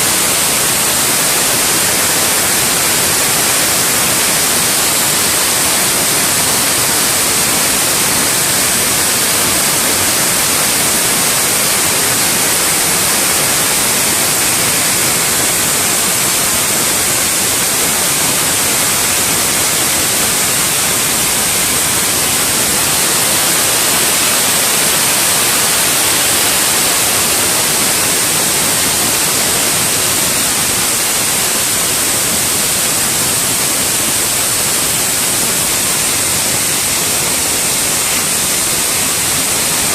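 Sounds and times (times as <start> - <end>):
pressure washer hissing: 0.0 - 39.9.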